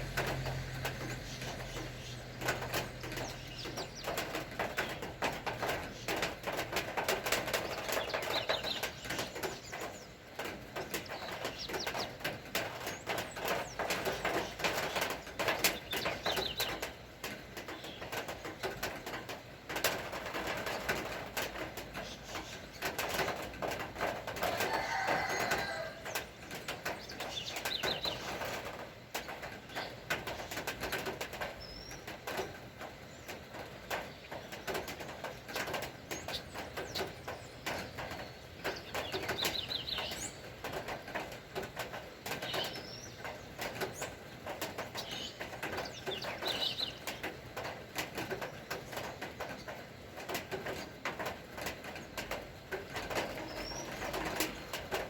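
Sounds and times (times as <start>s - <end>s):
rain pattering and dripping: 0.0s - 55.0s
birds calling: 0.1s - 19.4s, 20.0s - 52.3s, 52.9s - 55.0s.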